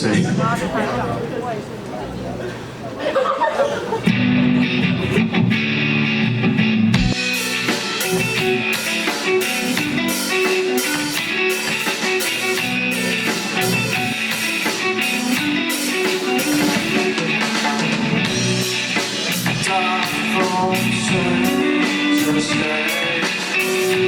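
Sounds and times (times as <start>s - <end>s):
electric guitars: 4.0s - 24.0s
drum kit and cymbals: 4.1s - 24.0s.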